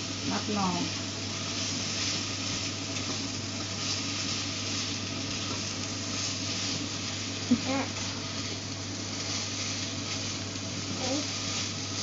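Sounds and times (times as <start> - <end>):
constant low hum: 0.0 - 12.0
food sizzling in a pan: 0.0 - 12.0
spatula stirring in a pan: 1.1 - 12.0.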